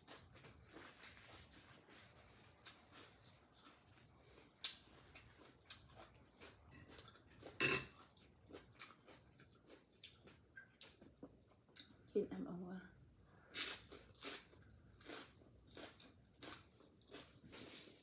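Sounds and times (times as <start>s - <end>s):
person chewing: 0.0s - 12.0s, 13.3s - 18.0s.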